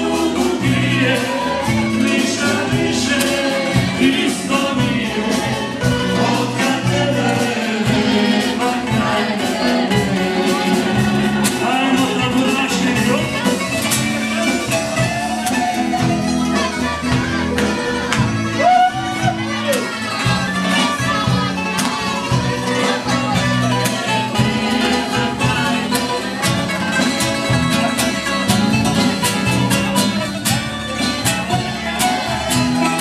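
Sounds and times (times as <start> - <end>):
people singing: 0.0 - 33.0
plucked strings: 0.0 - 33.0
pulsing bass line: 0.0 - 33.0.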